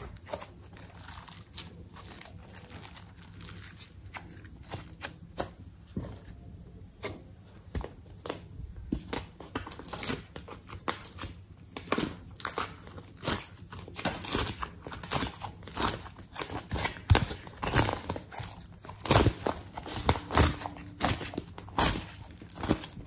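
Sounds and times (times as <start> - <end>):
plastic bags crinkling: 0.0 - 5.2, 9.6 - 23.0.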